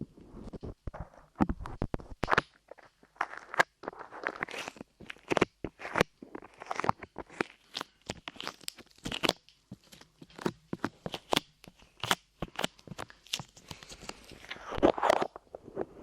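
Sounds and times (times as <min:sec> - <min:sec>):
clay squished and pulled: 0:00.5 - 0:15.8.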